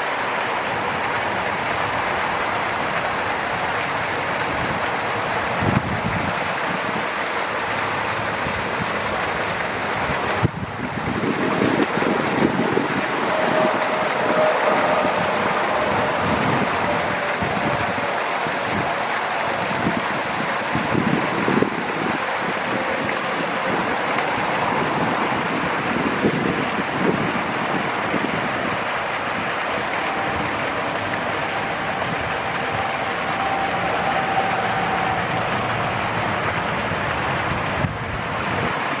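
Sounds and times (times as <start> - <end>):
distant highway traffic hum: 0.0 - 39.0
waterfall splashing: 0.0 - 39.0.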